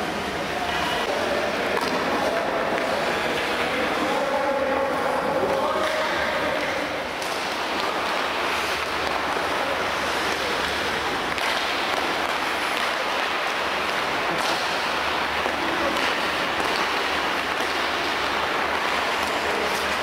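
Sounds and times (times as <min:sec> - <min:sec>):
ice rink hall hiss: 0:00.0 - 0:20.0.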